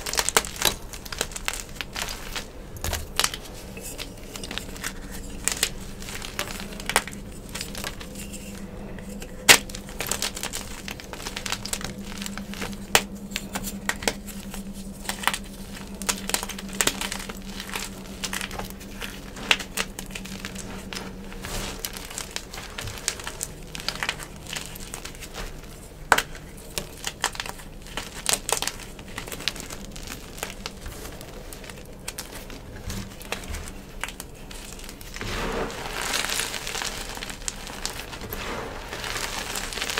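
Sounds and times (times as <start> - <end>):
chalk crackling and snapping: 0.0 - 39.9
chalk crumbling: 0.0 - 39.9.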